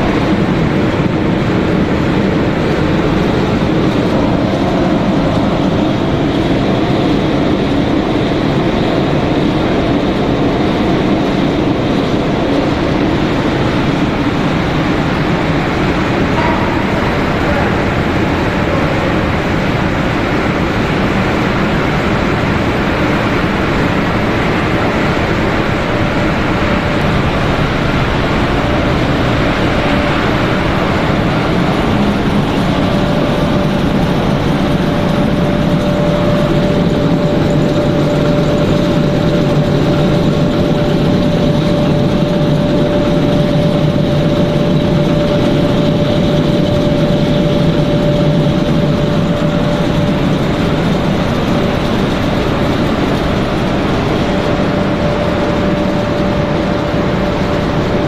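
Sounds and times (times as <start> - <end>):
machinery drone: 0.0 - 58.0
mid-pitched machine whine: 0.0 - 58.0.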